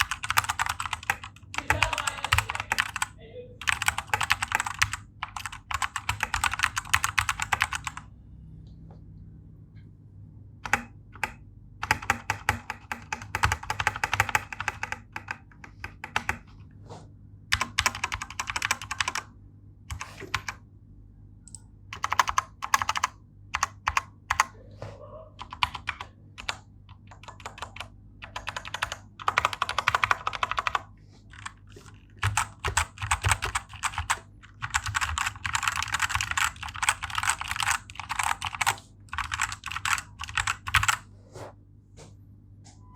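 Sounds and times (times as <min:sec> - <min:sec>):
typing on mechanical keyboard: 0:00.0 - 0:08.1, 0:10.6 - 0:16.5, 0:17.5 - 0:19.3, 0:19.9 - 0:20.6, 0:21.5 - 0:24.5, 0:25.4 - 0:41.0.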